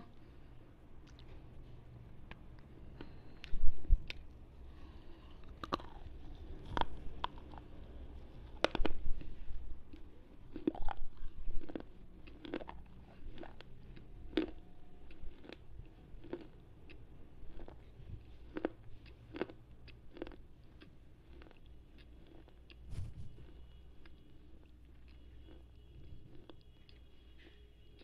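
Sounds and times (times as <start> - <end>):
sharp crunches of chewing: 2.2 - 28.0.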